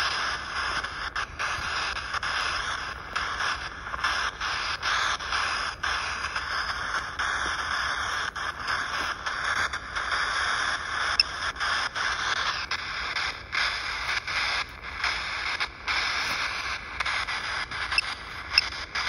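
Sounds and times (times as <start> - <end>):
electronic static hiss: 0.0 - 19.0.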